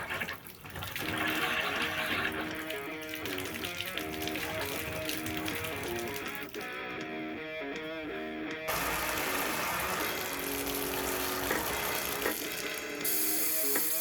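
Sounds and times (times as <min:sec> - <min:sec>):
water and air rushing from faucet: 0:00.0 - 0:06.6, 0:08.7 - 0:14.0
guitar music: 0:02.2 - 0:14.0.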